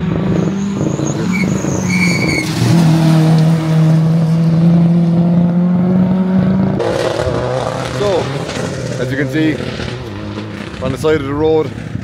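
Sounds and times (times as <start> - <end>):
rally car driving past: 0.0 - 11.0.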